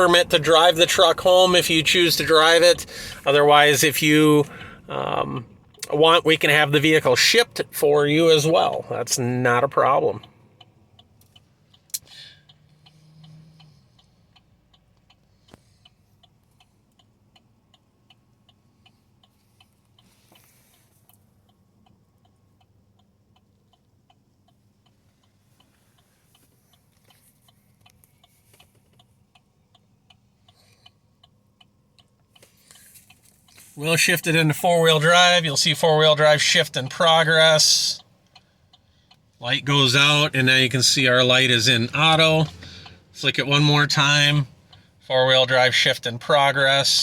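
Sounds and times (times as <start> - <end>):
turn signal ticking: 0.0 - 47.0.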